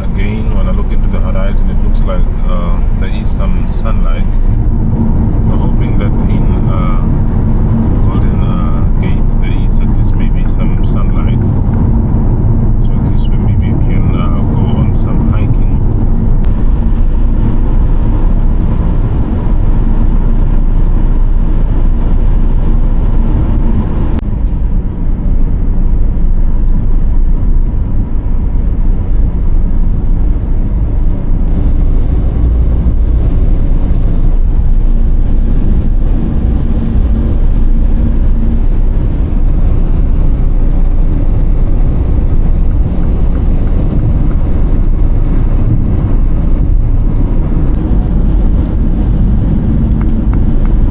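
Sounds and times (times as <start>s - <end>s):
car driving at highway speed: 0.0s - 50.9s
low steady hum: 0.0s - 50.9s.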